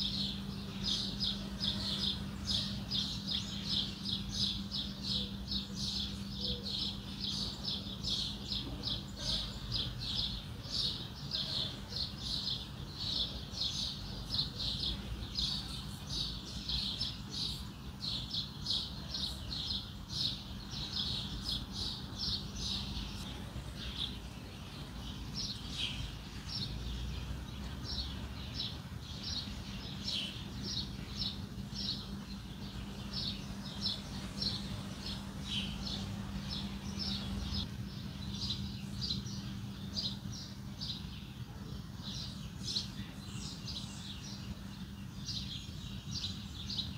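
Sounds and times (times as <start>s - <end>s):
low steady hum: 0.0s - 46.9s
small birds chirping: 0.0s - 46.9s.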